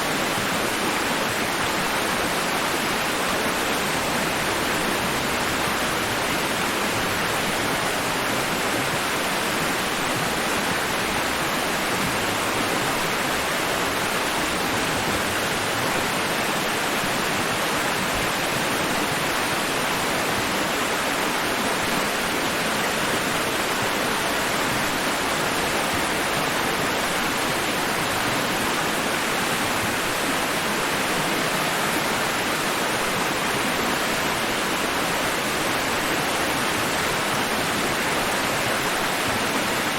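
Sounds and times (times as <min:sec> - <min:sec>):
steady white noise: 0:00.0 - 0:39.9.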